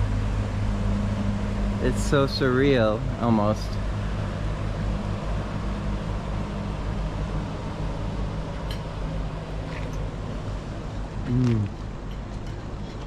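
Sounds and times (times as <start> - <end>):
hiss of wind and water: 0.0 - 13.0
low engine hum: 0.0 - 13.0.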